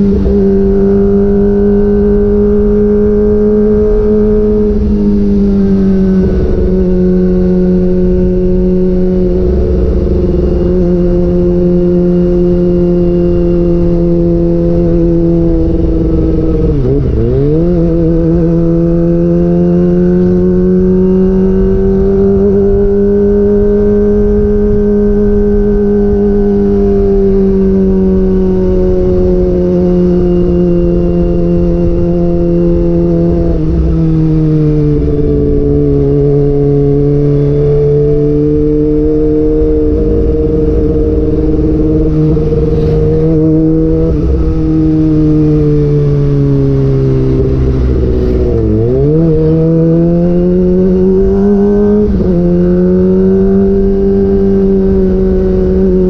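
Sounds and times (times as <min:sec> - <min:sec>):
motorcycle engine riding: 0:00.0 - 0:56.0
wind rush on microphone: 0:00.0 - 0:56.0.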